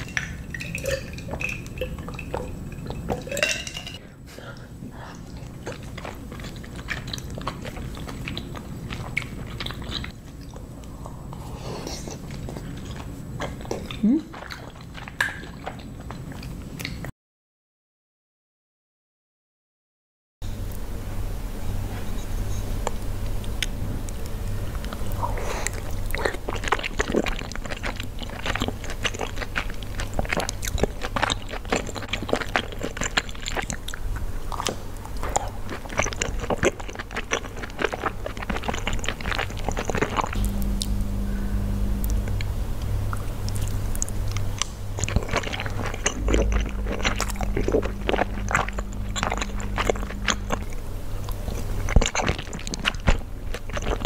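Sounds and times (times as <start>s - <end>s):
wet chewing: 0.0s - 3.6s, 4.5s - 17.1s, 22.9s - 54.0s
low steady hum: 0.0s - 17.1s, 20.4s - 54.0s.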